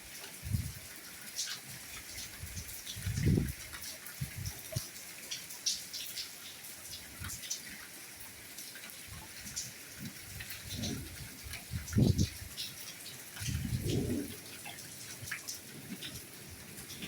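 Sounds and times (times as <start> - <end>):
rain drops tapping: 0.0 - 17.0.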